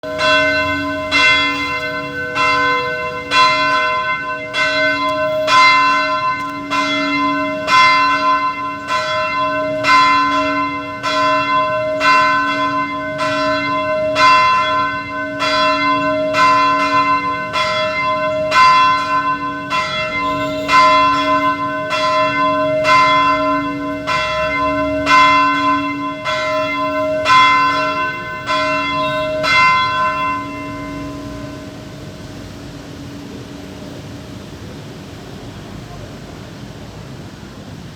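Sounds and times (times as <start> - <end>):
church bell ringing: 0.0 - 34.2.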